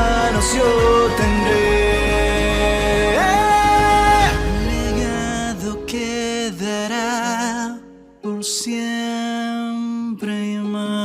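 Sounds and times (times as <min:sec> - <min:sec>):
person singing with vibrato: 0:00.0 - 0:11.0
pop backing music: 0:00.0 - 0:11.0.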